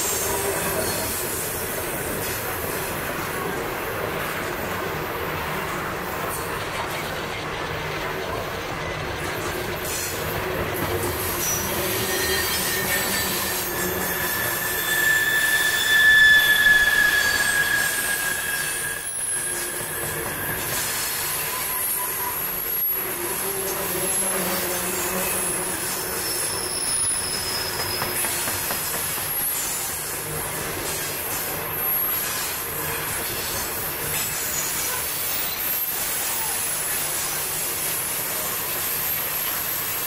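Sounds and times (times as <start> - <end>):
freight train rumble: 0.0 - 40.0
train wheels squealing on rails: 0.0 - 40.0.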